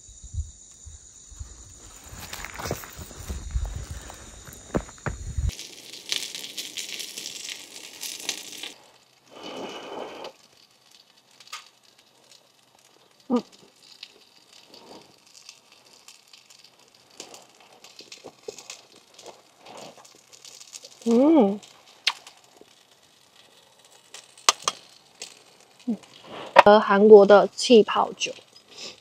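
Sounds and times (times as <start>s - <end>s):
wood fire crackling and popping: 0.5s - 29.0s.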